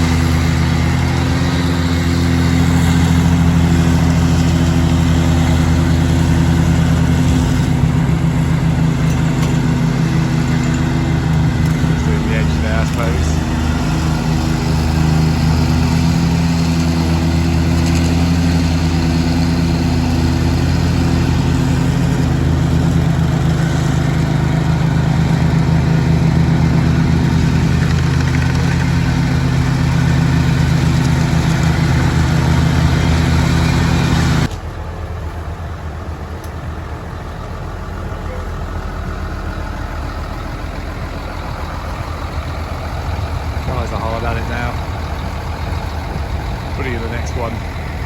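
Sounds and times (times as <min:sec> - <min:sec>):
engine running: 0:00.0 - 0:48.0.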